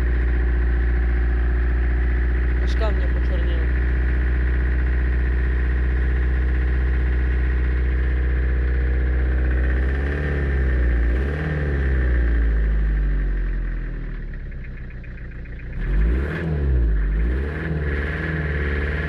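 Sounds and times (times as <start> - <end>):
van engine idling and revving: 0.0 - 19.0.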